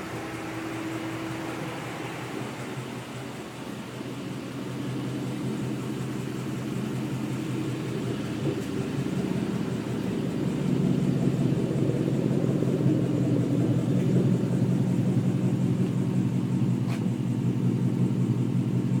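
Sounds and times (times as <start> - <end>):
loud car exhaust at steady speed: 0.0 - 19.0.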